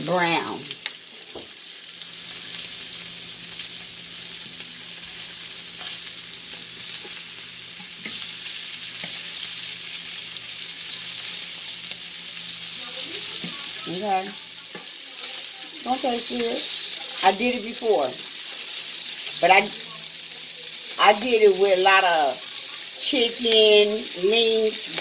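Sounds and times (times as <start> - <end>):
hot dogs sizzling in a skillet: 0.0 - 25.0.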